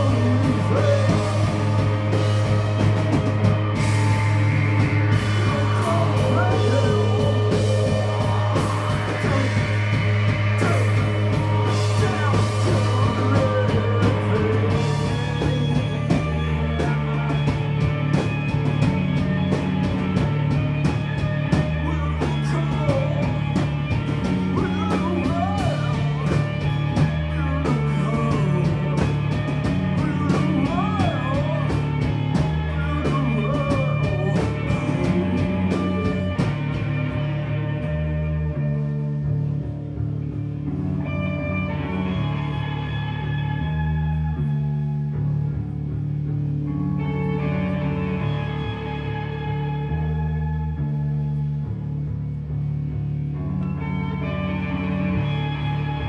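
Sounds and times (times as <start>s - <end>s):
noise-rock band playing: 0.0s - 56.0s.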